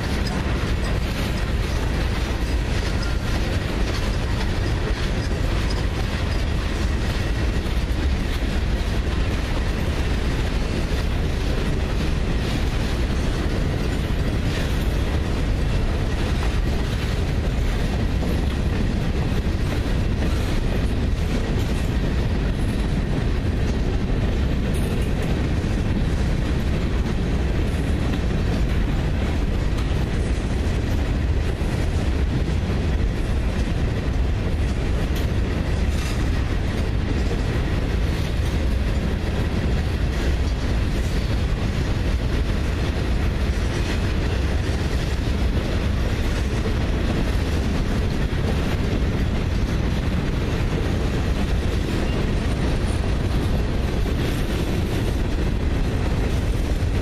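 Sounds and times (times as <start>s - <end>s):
freight train rumbling past: 0.0s - 57.0s
wheels clicking over rail joints: 0.0s - 57.0s.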